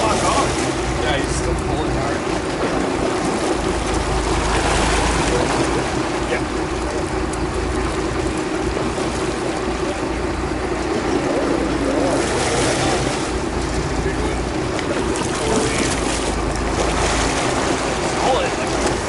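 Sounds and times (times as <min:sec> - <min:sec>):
boat engine running: 0:00.0 - 0:19.0
water noise: 0:00.0 - 0:19.0
wind: 0:00.0 - 0:19.0.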